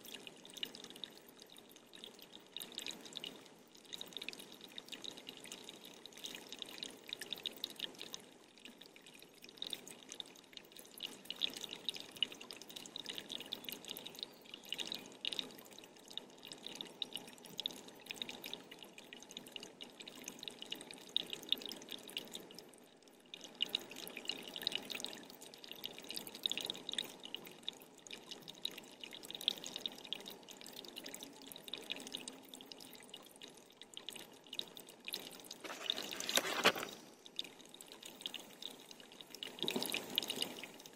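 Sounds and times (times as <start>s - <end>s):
water dripping and trickling: 0.0s - 40.9s.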